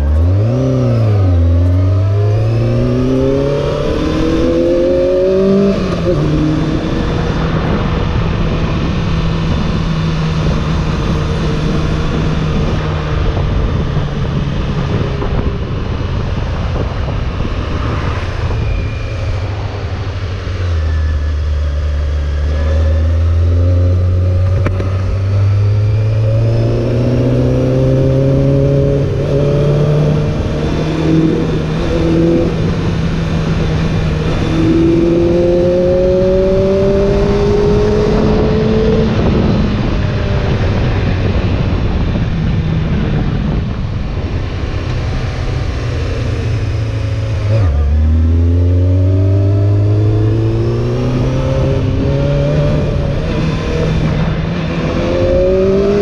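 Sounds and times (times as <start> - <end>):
motorcycle engine revving through gears: 0.0 - 56.0
wind rushing over microphone: 0.0 - 56.0.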